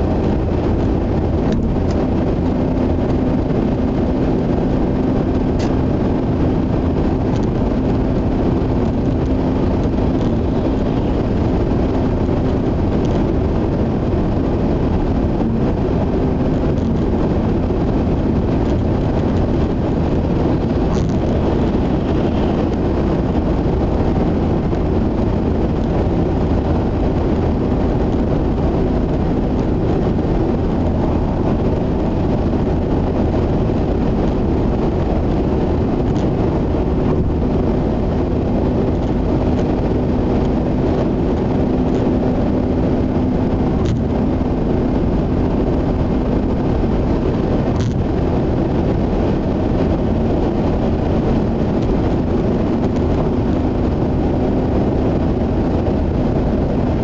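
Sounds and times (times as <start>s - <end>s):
car engine running: 0.0s - 57.0s
road and tyre noise in car: 0.0s - 57.0s
steady low hum: 0.0s - 57.0s.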